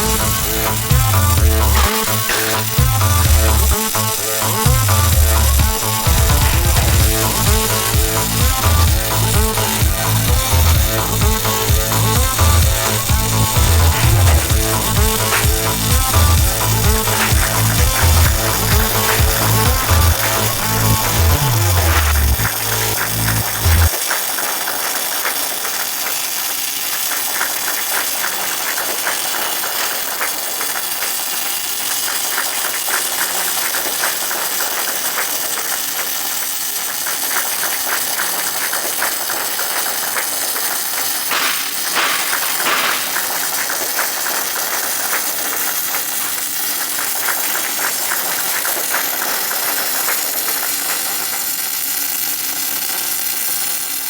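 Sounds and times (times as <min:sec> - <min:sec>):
welding arc crackling: 0:00.0 - 0:54.0.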